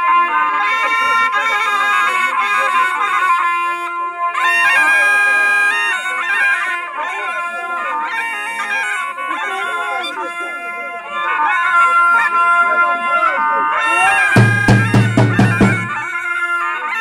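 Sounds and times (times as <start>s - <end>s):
shawm playing folk tune: 0.0s - 17.0s.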